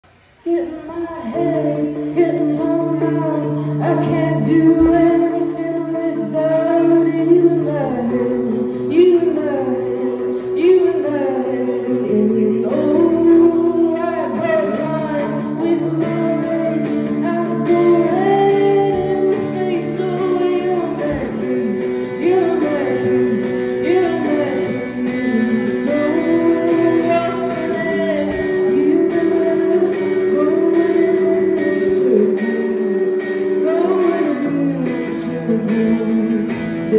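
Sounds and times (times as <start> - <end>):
guitar chords: 0.0 - 36.9
woman singing into a microphone: 0.1 - 36.9.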